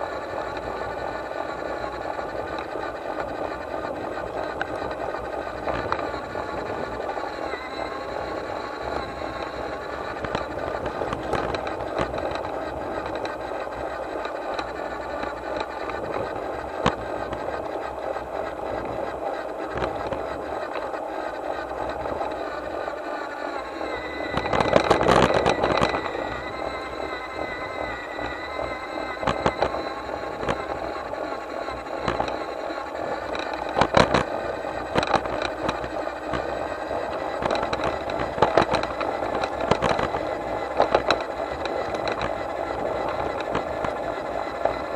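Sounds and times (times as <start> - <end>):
model locomotive wheels rattling: 0.0 - 44.9.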